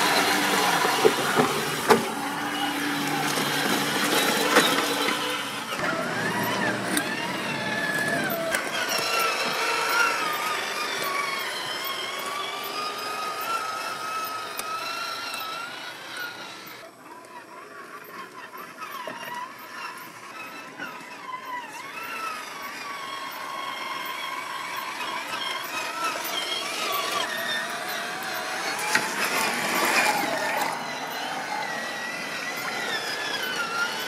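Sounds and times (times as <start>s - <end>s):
electric motor whining: 0.0s - 34.0s.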